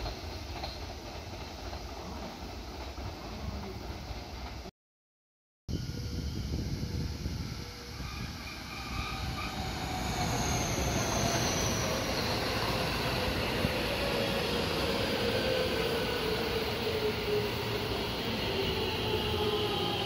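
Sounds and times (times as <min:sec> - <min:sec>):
train wheels rumbling on rails: 0:00.0 - 0:04.7, 0:06.0 - 0:20.0.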